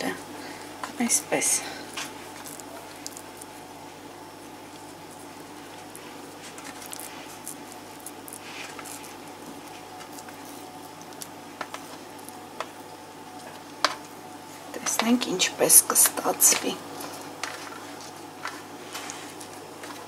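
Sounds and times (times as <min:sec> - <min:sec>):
fingers patting and rustling dough: 0:00.0 - 0:15.3, 0:15.9 - 0:20.0
faint steady hum: 0:00.0 - 0:20.0.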